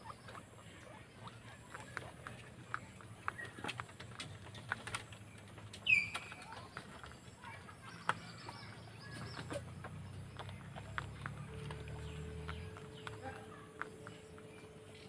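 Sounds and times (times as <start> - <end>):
guinea pigs nibbling feed: 0.0 - 15.0.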